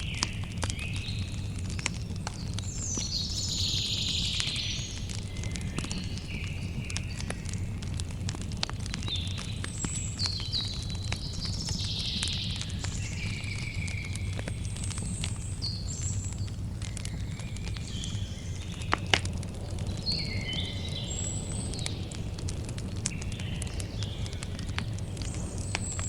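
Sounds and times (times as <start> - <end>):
birds chirping: 0.0 - 8.0, 8.8 - 26.0
campfire crackling and popping: 0.0 - 26.0.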